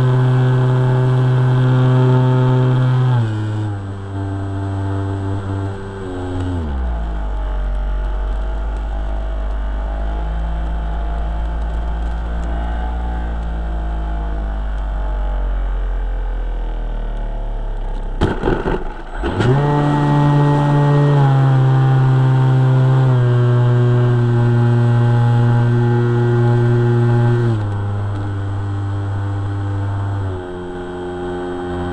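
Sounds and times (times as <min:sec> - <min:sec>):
model airplane motor and propeller: 0:00.0 - 0:31.9.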